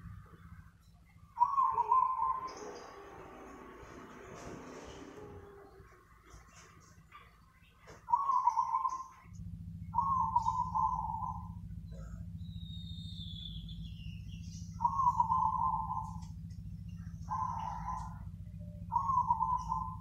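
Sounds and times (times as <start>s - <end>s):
steady low hum: 0.0s - 20.0s
dove cooing: 1.3s - 12.4s, 14.4s - 20.0s.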